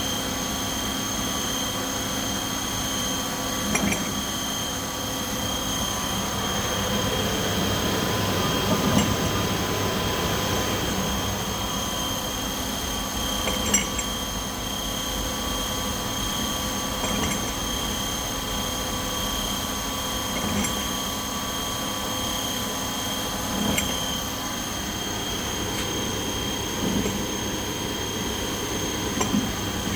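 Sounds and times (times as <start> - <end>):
machinery hum with high whine: 0.0 - 29.9.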